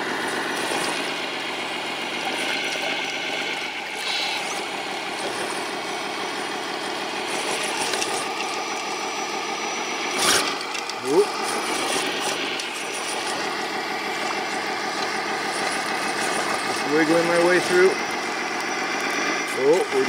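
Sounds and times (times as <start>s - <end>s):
stream water rushing: 0.0s - 16.8s
electric motors whining: 0.0s - 20.0s.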